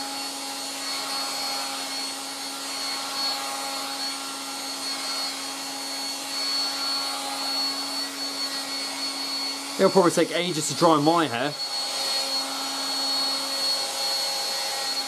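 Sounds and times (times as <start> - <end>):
hairdryer blowing: 0.0 - 15.0.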